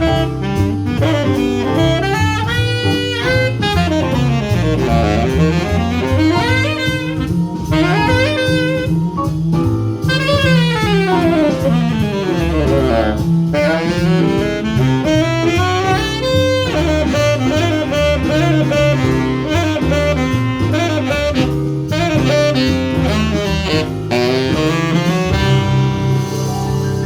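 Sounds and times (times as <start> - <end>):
bass: 0.0 - 27.0
drums: 0.0 - 27.0
saxophone playing fast runs: 0.0 - 27.0.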